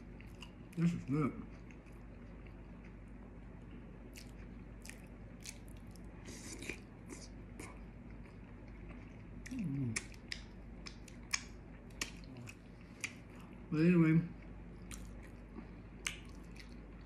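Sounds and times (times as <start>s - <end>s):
person chewing and lip smacking: 0.0s - 3.0s, 4.1s - 13.6s, 14.8s - 17.0s.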